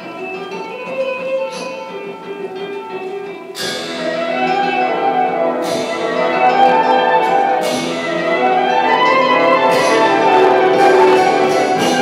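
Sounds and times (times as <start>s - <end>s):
held music notes: 0.0s - 12.0s.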